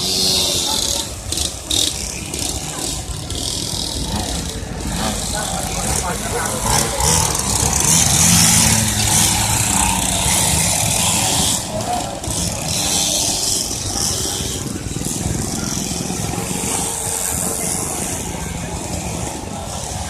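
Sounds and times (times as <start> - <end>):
crowd voices: 0.0 - 20.0
small motorbike engines: 0.0 - 20.0.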